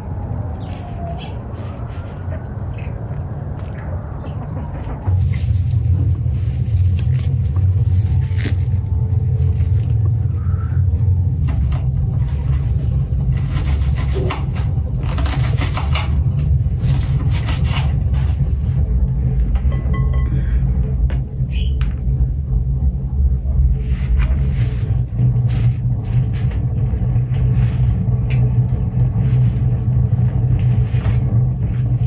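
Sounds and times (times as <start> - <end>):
deep rumble: 0.0 - 32.0.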